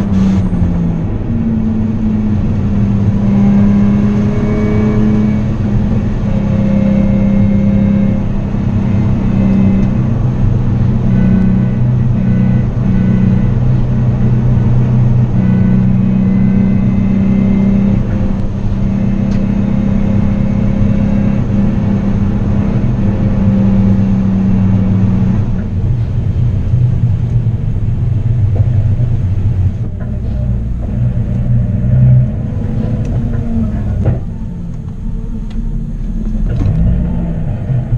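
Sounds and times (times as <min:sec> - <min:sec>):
car engine running at low revs: 0:00.0 - 0:37.9.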